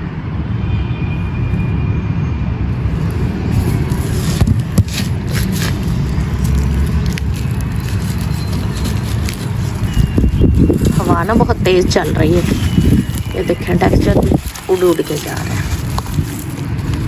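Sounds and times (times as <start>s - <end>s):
wind buffeting microphone: 2.7s - 17.0s
crisp crackles of crumbling: 2.8s - 17.0s.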